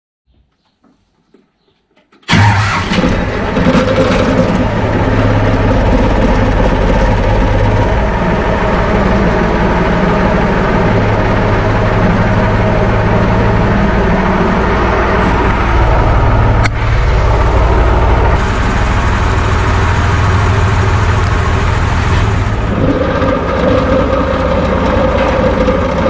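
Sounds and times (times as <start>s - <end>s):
tractor diesel engine starting and idling: 2.2s - 26.0s.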